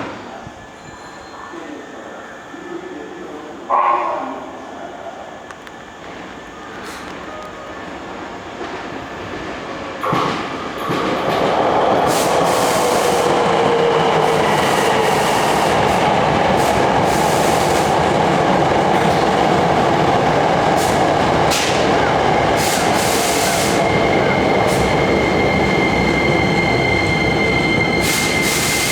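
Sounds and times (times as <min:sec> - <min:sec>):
electric train wheels rumbling: 0:05.3 - 0:28.9.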